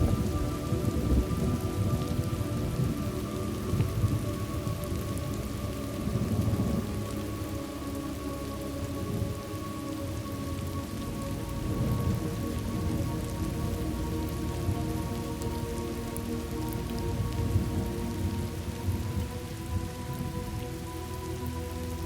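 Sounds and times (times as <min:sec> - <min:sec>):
soft music drone: 0:00.0 - 0:22.0
steady rain: 0:00.0 - 0:22.0.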